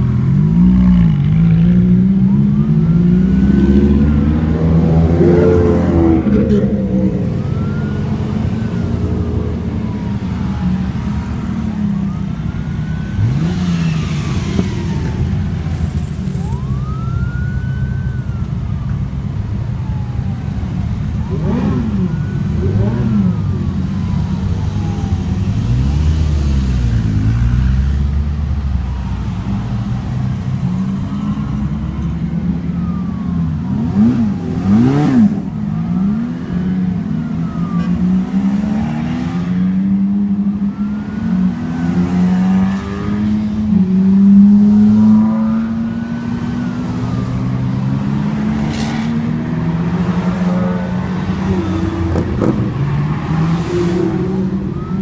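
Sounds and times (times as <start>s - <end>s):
sports car engines revving: 0.0s - 18.3s, 19.9s - 55.0s
faint siren wailing: 1.0s - 55.0s.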